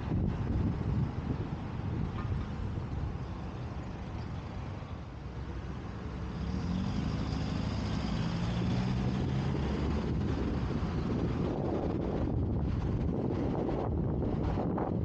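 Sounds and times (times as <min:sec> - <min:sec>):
wind buffeting microphone: 0:00.0 - 0:05.0, 0:07.2 - 0:15.0
car driving in traffic: 0:00.0 - 0:15.0
vehicle engine hum: 0:00.0 - 0:15.0.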